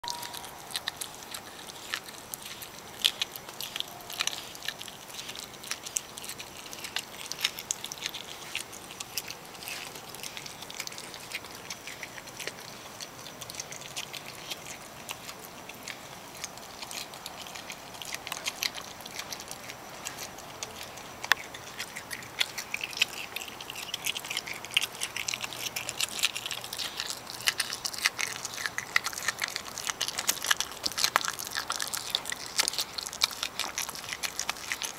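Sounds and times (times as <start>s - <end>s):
animal chewing wetly: 0.0s - 34.9s.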